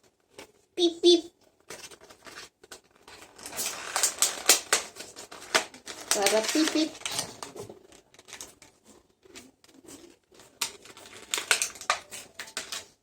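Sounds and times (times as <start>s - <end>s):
packaging crinkling: 1.4s - 13.0s.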